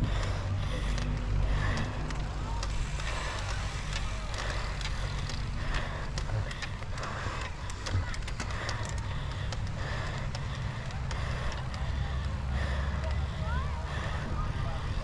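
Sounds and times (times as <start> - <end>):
bike clicking and rattling: 0.0 - 15.0.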